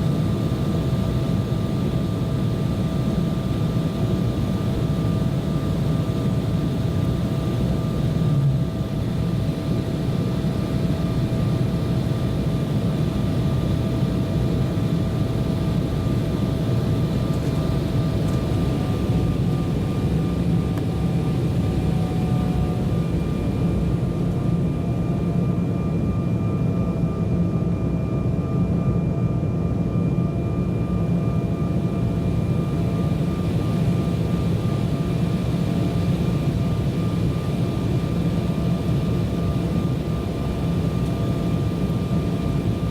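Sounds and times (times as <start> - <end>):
faint steady whining tones: 0.0 - 42.9
jet engine and airflow rumble: 0.0 - 42.9.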